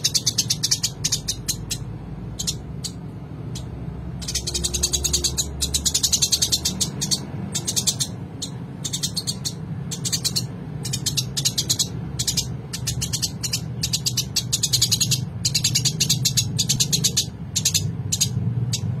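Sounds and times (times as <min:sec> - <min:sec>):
sparrow chirping: 0:00.0 - 0:19.0
steady low hum: 0:00.0 - 0:19.0.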